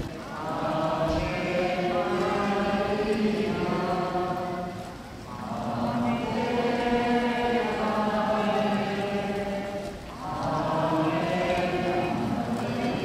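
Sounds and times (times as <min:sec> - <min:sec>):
voices singing a hymn: 0:00.0 - 0:13.0.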